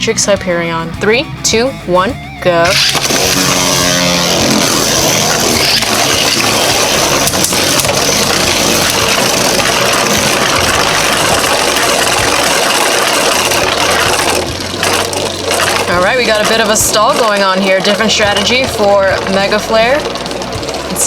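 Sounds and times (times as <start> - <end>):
spinning tops whirring rattle: 2.6 - 21.0.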